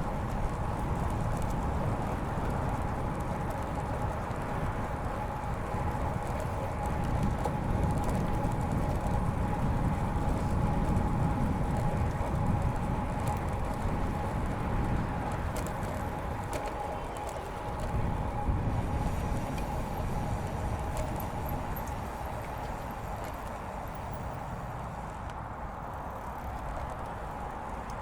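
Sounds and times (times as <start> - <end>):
bike tyres rumbling on pavement: 0.0 - 28.0
light bike clicks: 0.0 - 28.0.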